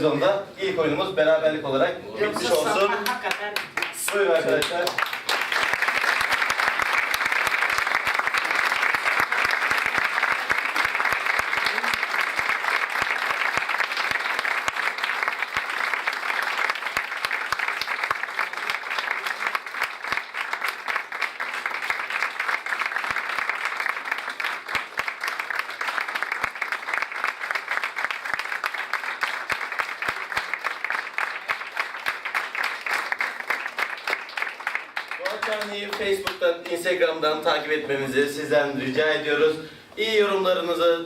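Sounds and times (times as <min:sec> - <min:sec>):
audience applauding: 0:02.4 - 0:36.9.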